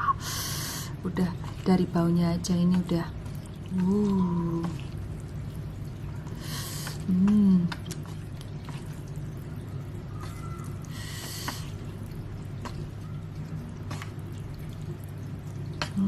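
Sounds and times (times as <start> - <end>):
steady low hum: 0.0 - 16.0
wet sticky noodle squishing: 0.9 - 16.0.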